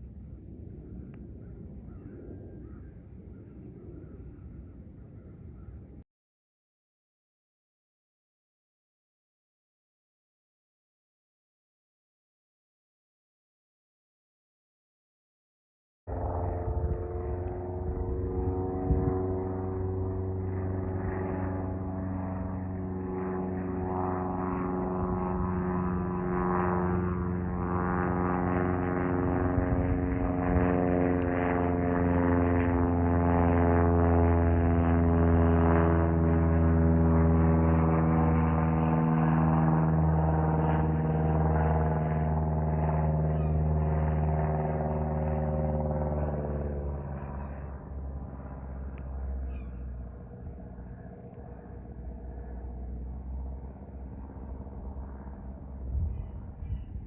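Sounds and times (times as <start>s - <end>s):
aircraft droning hum: 0.0s - 6.0s, 16.1s - 57.0s.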